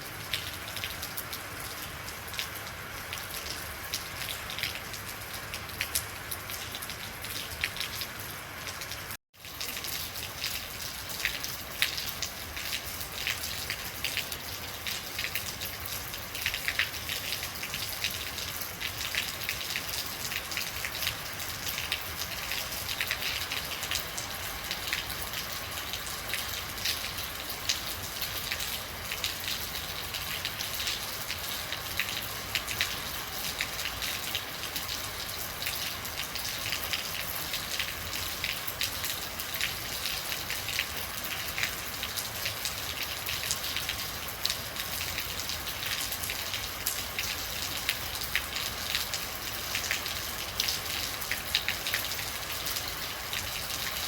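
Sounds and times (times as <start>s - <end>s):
rain drops ticking on hard surface: 0.0s - 54.0s
steady rain hiss: 0.0s - 54.0s.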